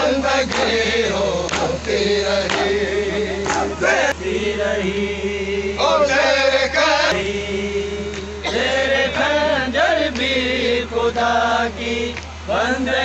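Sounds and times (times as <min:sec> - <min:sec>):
men chanting a lament: 0:00.0 - 0:13.0
steady low hum: 0:00.0 - 0:13.0.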